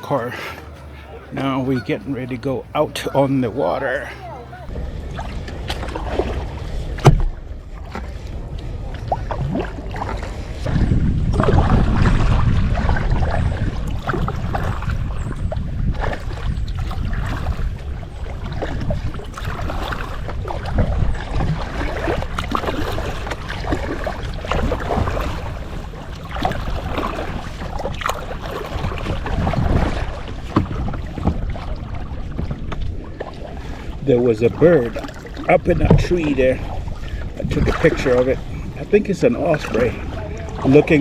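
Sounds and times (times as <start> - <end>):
kayak paddle splashing in water: 0.0 - 41.0
wind rumbling on microphone: 4.5 - 41.0.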